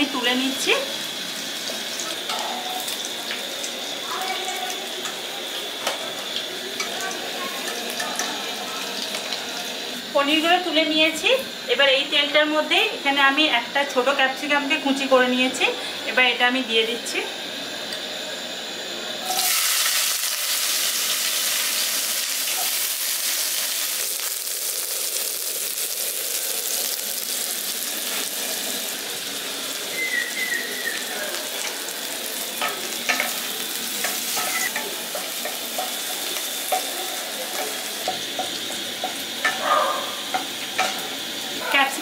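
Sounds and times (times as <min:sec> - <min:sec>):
vegetables sizzling in oil: 0:00.0 - 0:18.5, 0:19.2 - 0:42.0.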